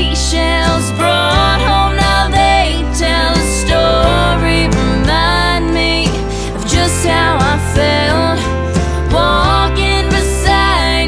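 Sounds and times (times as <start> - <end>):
low bass notes: 0.0 - 11.0
song with sliding melody: 0.0 - 11.0.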